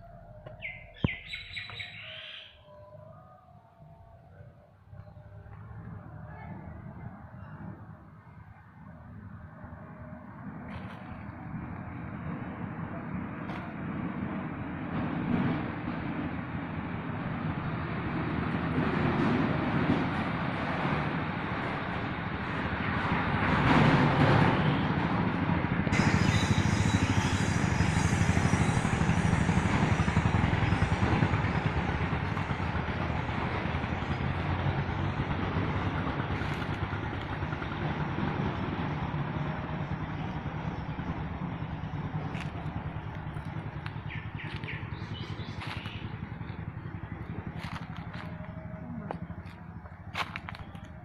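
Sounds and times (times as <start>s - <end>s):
vehicle engine running: 4.8s - 51.0s.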